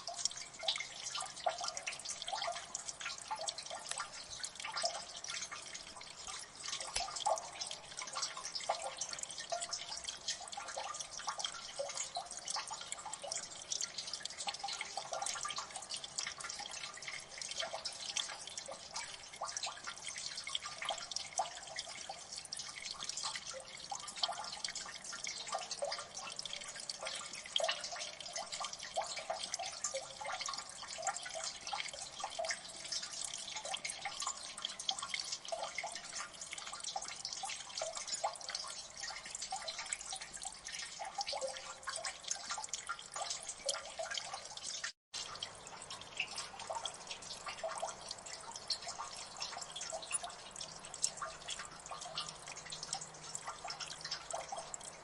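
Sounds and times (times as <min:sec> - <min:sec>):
water dripping and splashing: 0:00.0 - 0:55.0.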